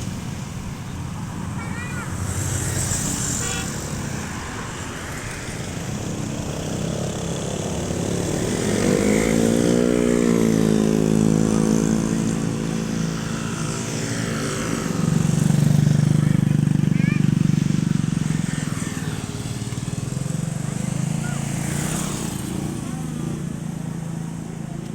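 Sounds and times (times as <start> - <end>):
traffic noise: 0.0 - 24.9
vehicle engine passing: 0.0 - 24.9.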